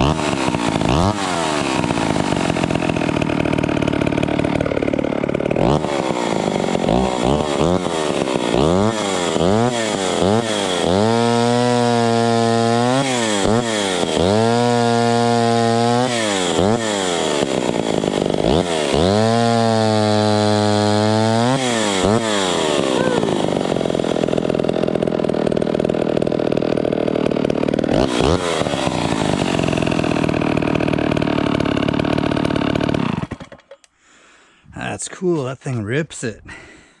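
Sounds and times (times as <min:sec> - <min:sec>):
chainsaw running and revving: 0:00.0 - 0:33.7.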